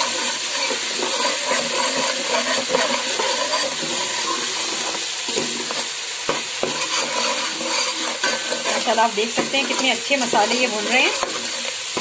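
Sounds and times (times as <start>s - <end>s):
spices sizzling in hot oil: 0.0s - 12.0s
spoon scraping pot: 0.0s - 12.0s.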